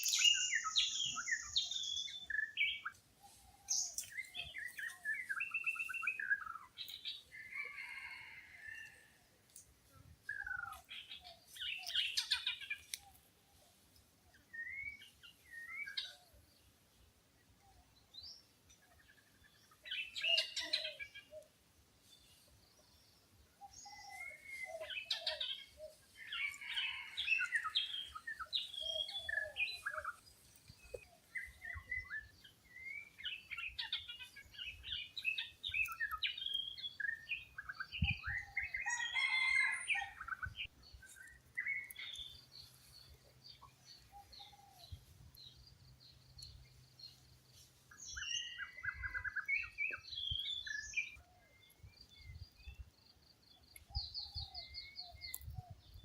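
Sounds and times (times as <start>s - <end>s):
birds chirping: 0.0s - 8.8s, 14.3s - 56.0s.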